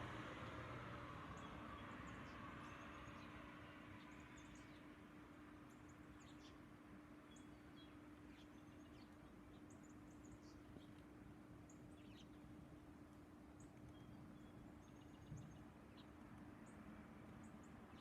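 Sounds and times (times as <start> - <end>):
small songbirds chirping: 0.5 - 18.0.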